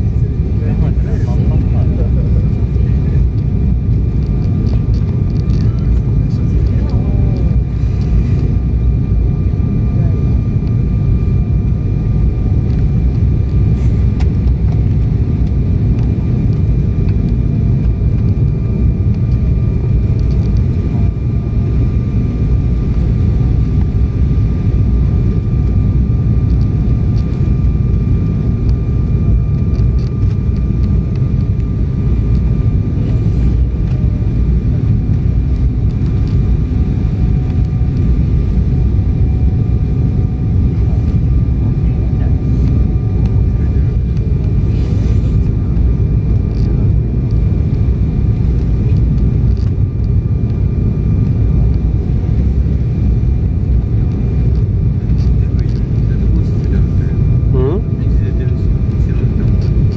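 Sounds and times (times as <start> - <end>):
jet airliner cabin roar: 0.0 - 59.9.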